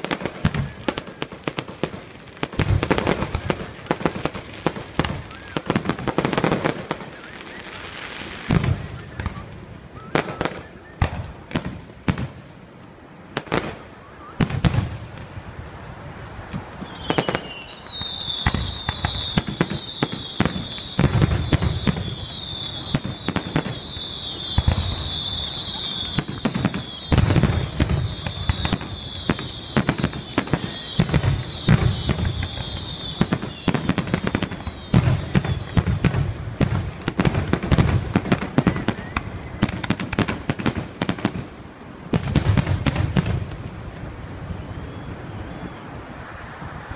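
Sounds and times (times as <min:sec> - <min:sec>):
high-pitched fireworks whistling: 0:00.0 - 0:12.4, 0:13.4 - 0:15.2, 0:16.4 - 0:41.5, 0:42.1 - 0:46.9
fireworks bursting: 0:00.0 - 0:46.9.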